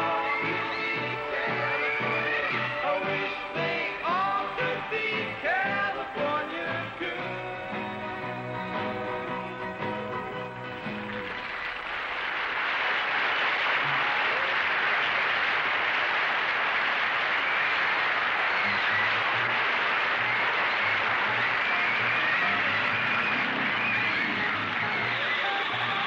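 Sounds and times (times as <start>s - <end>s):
audience applauding: 0.0s - 7.3s, 9.7s - 26.0s.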